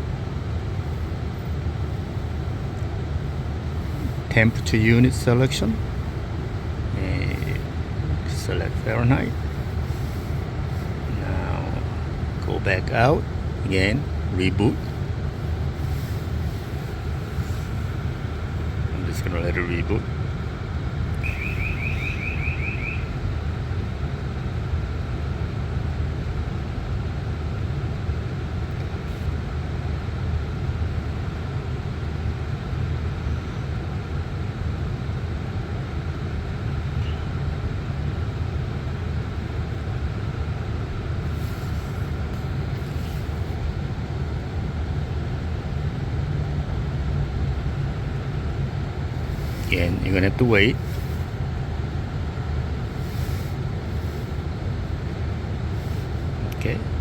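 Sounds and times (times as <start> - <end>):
car cabin low rumble: 0.0 - 57.0.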